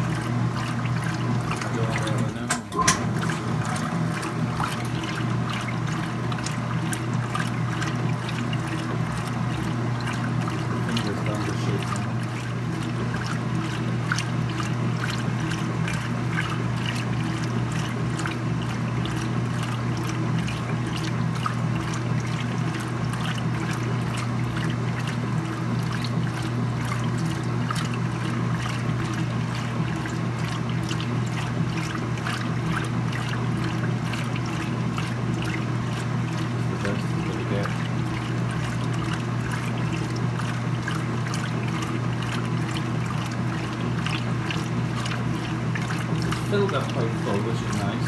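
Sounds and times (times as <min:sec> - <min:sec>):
washing machine motor hum: 0:00.0 - 0:48.0
water sloshing in tub: 0:00.0 - 0:48.0.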